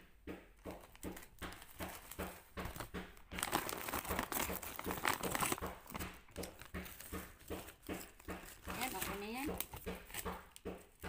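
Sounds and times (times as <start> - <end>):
plastic bags crinkling: 0.8 - 10.6.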